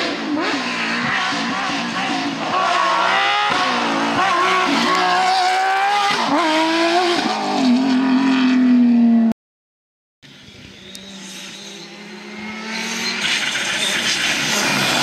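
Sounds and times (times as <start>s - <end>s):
rally car engine revving: 0.0s - 9.3s, 10.8s - 15.0s.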